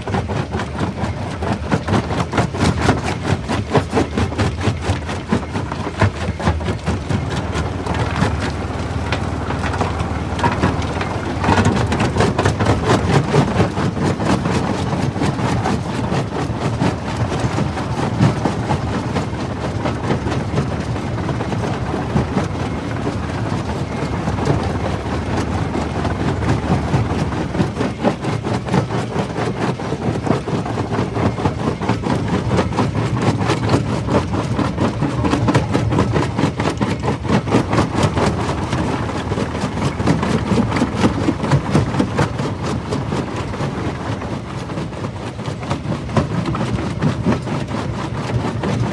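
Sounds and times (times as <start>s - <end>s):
crusher machine rumbling: 2.0s - 29.3s, 31.0s - 48.9s.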